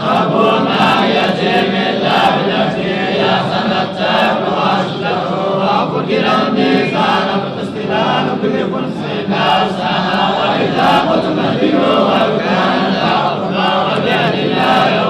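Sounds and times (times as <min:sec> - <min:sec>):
men chanting recitation together: 0:00.0 - 0:15.0.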